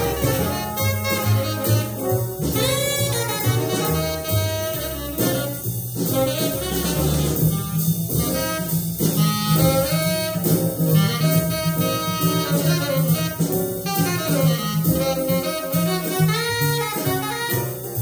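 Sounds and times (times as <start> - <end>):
double bass: 0.0 - 18.0
jazz band accompaniment: 0.0 - 18.0
tenor saxophone solo: 0.0 - 18.0.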